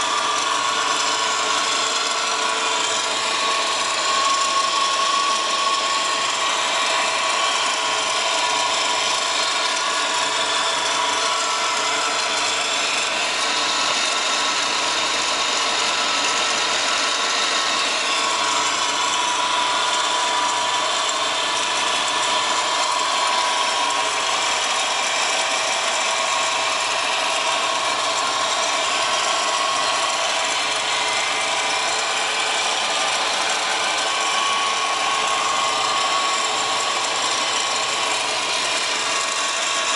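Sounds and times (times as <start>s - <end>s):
car engine running with whine: 0.0s - 39.9s.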